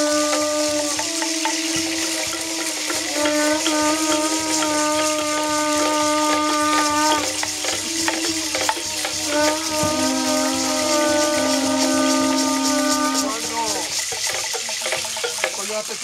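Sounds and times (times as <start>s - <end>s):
wind instrument long note: 0.0s - 14.0s
rattling hiss: 0.0s - 16.0s.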